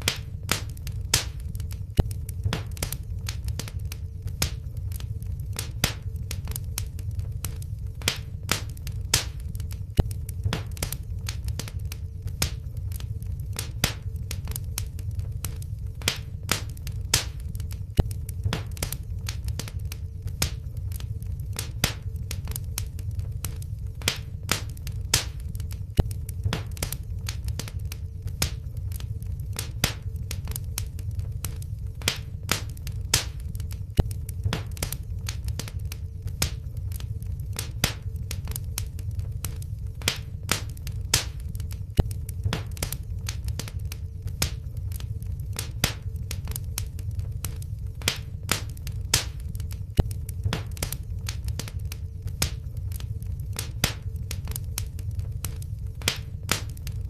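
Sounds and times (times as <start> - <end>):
faint steady hum: 0.0 - 57.0
low steady rumble: 0.0 - 57.0
wood fire crackling: 0.0 - 57.0.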